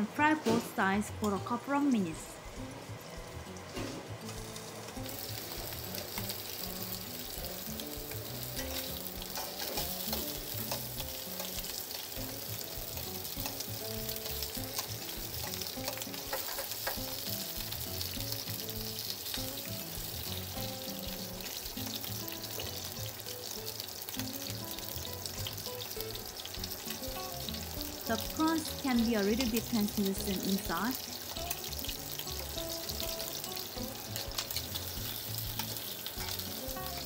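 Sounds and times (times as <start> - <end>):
prawns sizzling in hot oil: 0.0 - 37.0
soft background music: 0.0 - 37.0.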